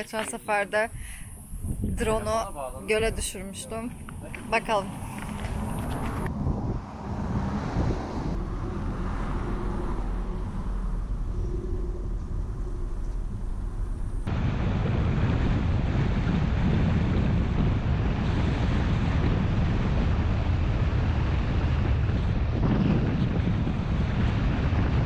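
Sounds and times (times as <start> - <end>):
low road rumble: 0.0 - 25.0
wind noise on microphone: 0.0 - 25.0.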